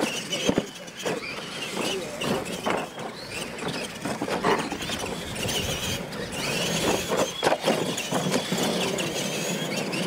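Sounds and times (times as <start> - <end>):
toy truck motors whining: 0.0 - 10.0.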